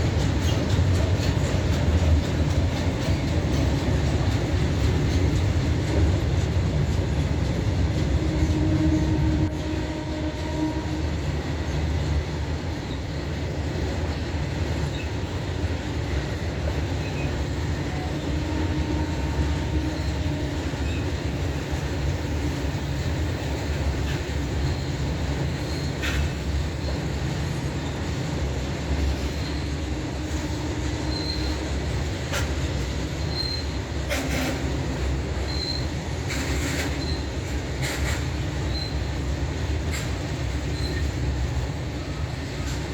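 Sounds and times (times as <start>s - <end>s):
train rumbling by: 0.0s - 42.9s
train wheels squealing: 0.0s - 42.9s.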